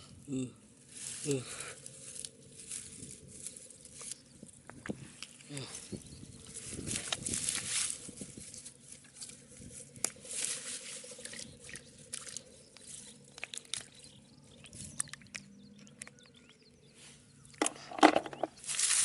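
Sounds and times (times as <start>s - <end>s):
squelching mud: 0.3s - 19.0s.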